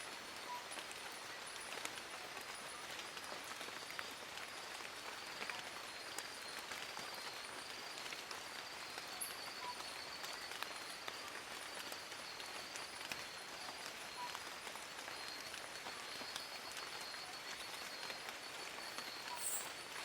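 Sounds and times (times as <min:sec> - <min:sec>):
rain dripping on leaves: 0:00.0 - 0:20.0.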